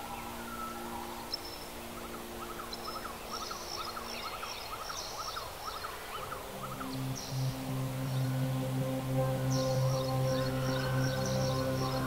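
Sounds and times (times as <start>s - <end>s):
ambient music tones: 0.0s - 12.0s
birds chirping: 0.0s - 12.0s.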